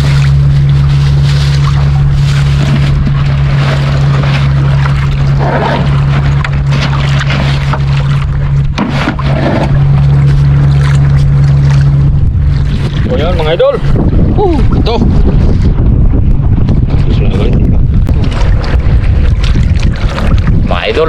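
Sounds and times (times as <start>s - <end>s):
boat engine droning: 0.0s - 21.0s
wind and water rushing: 0.0s - 21.0s.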